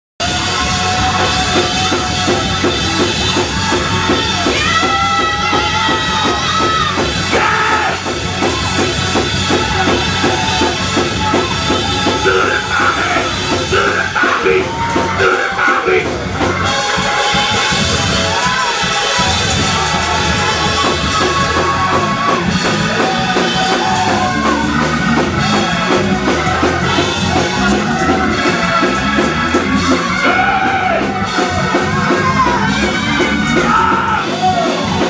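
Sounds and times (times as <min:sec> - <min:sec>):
drum kit beat: 0:00.2 - 0:35.0
group singing and shouting: 0:00.2 - 0:35.0.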